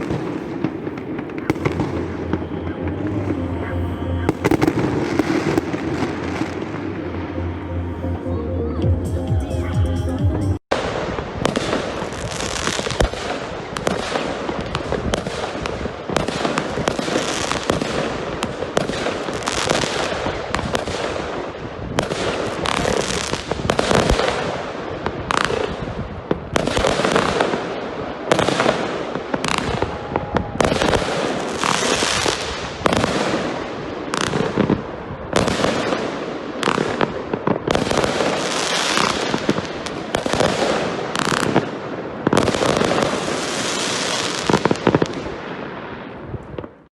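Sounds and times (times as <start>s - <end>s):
fireworks bursting: 0.0s - 7.9s, 10.7s - 46.9s.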